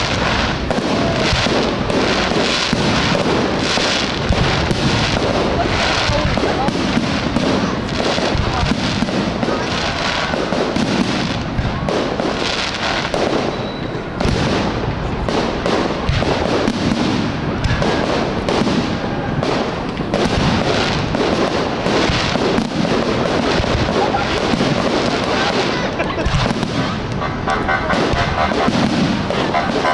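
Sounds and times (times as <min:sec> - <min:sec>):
fireworks bursting: 0:00.0 - 0:29.9.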